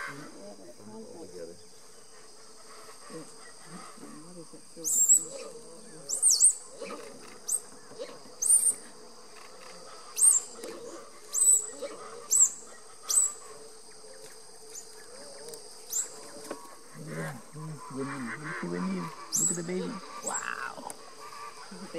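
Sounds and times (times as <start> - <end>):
insects droning: 0.0 - 21.9.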